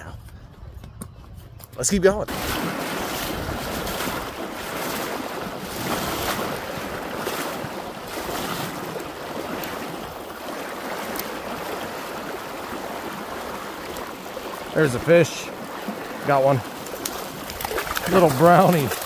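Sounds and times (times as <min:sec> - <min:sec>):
wind buffeting microphone: 0:00.0 - 0:19.0
creek water rushing: 0:02.3 - 0:19.0.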